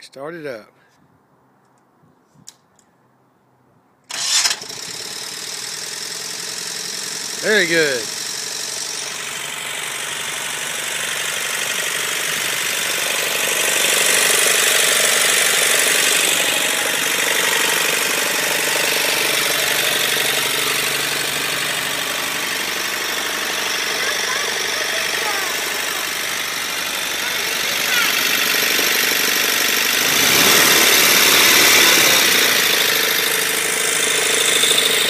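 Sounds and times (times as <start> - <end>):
engine running: 4.1 - 35.0.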